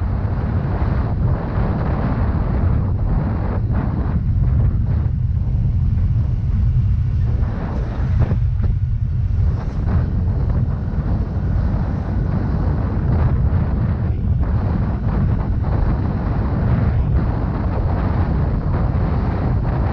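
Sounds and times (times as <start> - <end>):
road noise: 0.0 - 19.9
wind buffeting microphone: 0.0 - 19.9.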